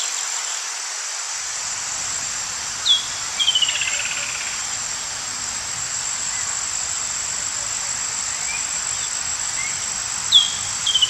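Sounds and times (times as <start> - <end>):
constant hiss: 0.0 - 11.0
high-pitched insect drone: 0.0 - 11.0.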